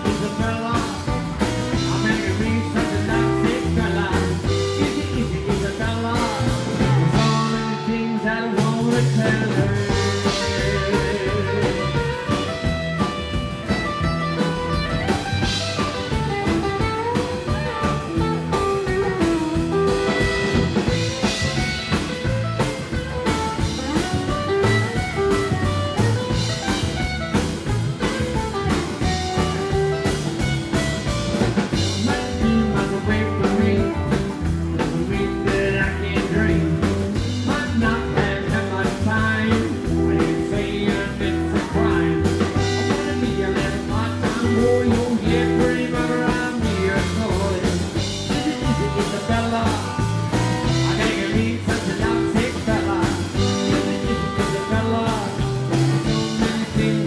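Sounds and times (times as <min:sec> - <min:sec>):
acoustic rhythm guitar: 0:00.0 - 0:57.0
drum kit beat: 0:00.0 - 0:57.0
electric guitar lead: 0:00.0 - 0:57.0
upright bass: 0:00.0 - 0:57.0.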